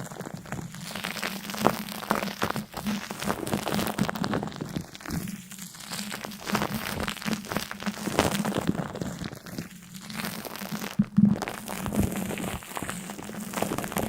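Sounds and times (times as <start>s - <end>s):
crinkling and crackling: 0.0s - 14.0s.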